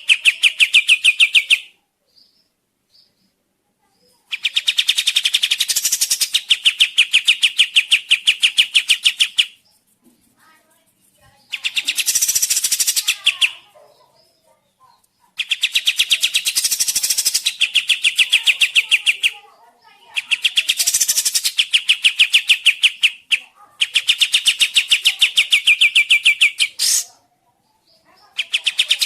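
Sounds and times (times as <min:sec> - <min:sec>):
songbird trilling: 0:00.0 - 0:02.4, 0:04.3 - 0:09.7, 0:11.4 - 0:14.4, 0:15.4 - 0:27.2, 0:27.8 - 0:29.0.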